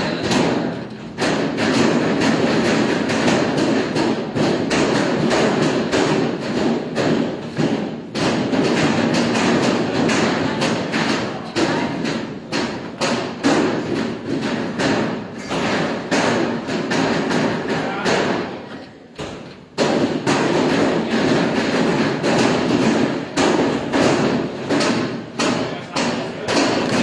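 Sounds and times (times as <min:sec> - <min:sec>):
dough slapping on metal table: 0:00.0 - 0:27.0.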